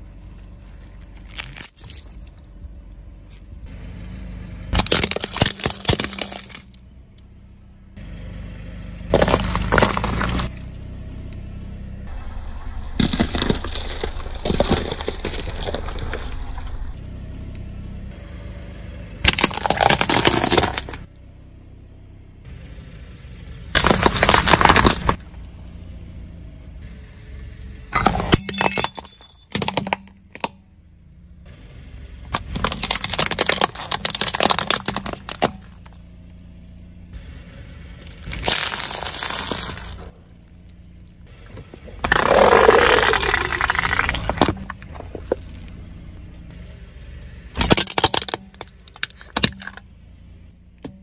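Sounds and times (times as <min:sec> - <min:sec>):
car tyre crushing objects: 0:00.0 - 0:03.8, 0:04.4 - 0:07.3, 0:08.9 - 0:17.7, 0:19.1 - 0:21.4, 0:23.6 - 0:27.0, 0:27.8 - 0:51.0
low steady hum: 0:00.0 - 0:51.0.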